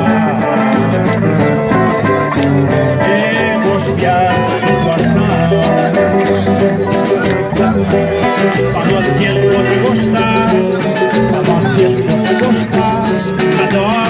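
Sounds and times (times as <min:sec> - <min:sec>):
band playing upbeat music: 0:00.0 - 0:14.0.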